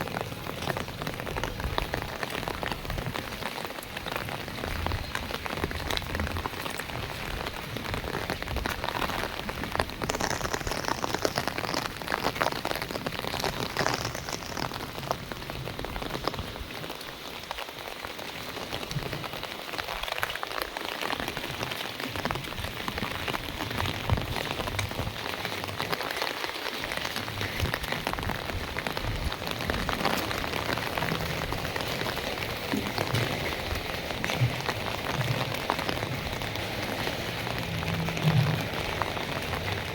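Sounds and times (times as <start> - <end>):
heavy rain pouring: 0.0 - 39.9
raindrop hits: 0.0 - 39.9.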